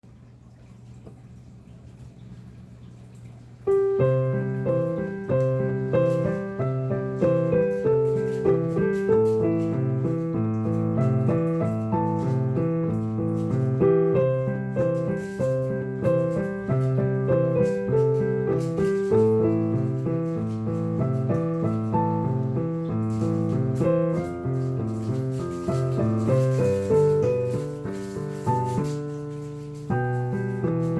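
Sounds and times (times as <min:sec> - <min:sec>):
solo jazz piano: 0:00.0 - 0:30.9.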